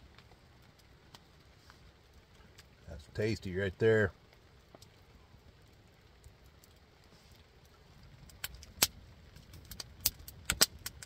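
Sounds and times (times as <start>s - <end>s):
firewood crackling and popping: 0.0s - 11.0s.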